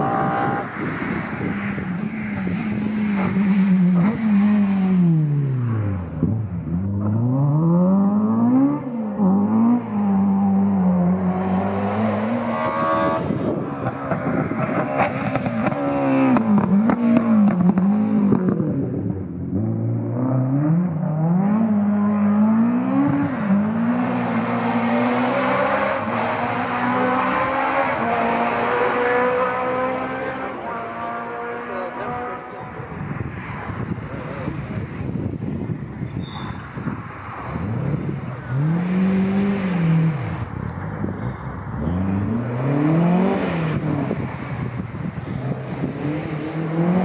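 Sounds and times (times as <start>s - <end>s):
rally car engine revving: 0.0s - 35.2s, 36.7s - 47.0s.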